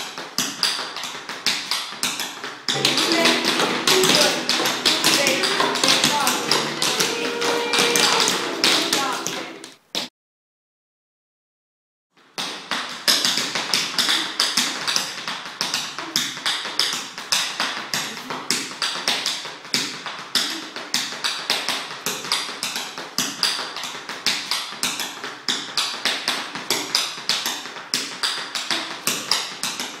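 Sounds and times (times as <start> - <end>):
tap dancing on wooden floor: 0.0 - 9.7, 12.4 - 30.0.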